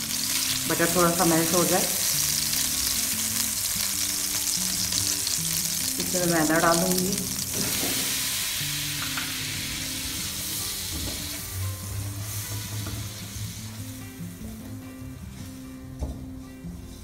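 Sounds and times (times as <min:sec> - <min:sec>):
butter sizzling in a pan: 0:00.0 - 0:14.7.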